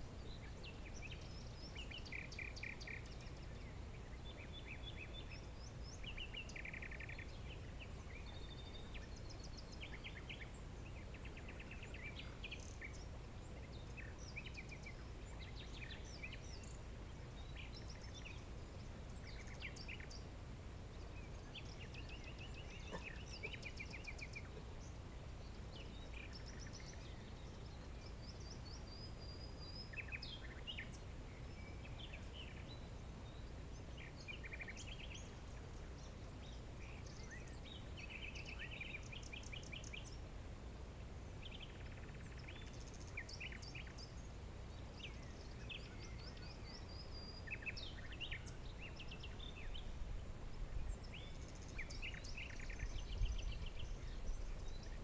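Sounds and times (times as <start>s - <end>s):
small birds chirping trills: 0.0s - 55.0s.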